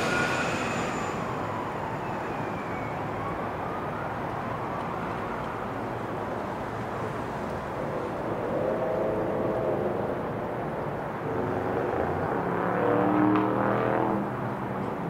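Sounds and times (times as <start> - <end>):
rumble of vehicle engines: 0.0 - 15.0.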